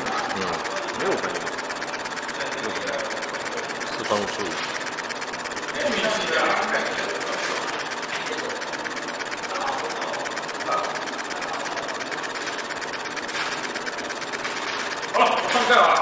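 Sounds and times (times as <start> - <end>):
laser pulsing buzz: 0.0 - 16.0.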